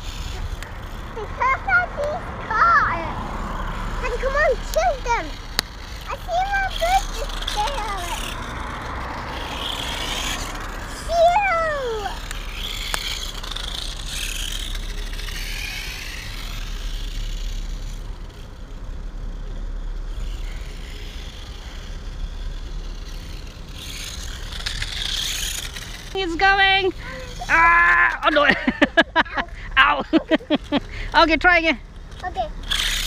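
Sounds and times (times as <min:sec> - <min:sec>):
toy motorcycle motor whining: 0:00.0 - 0:33.0.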